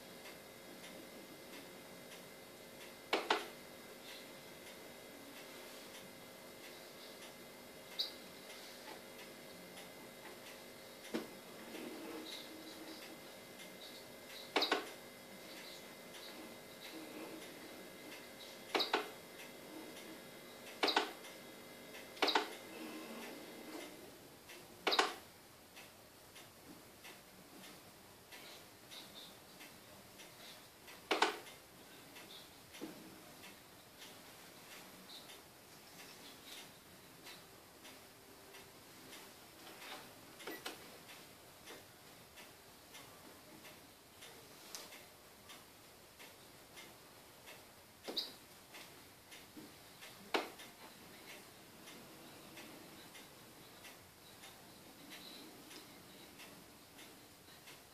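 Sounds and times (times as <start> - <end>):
faint regular ticking: 0.0 - 57.9.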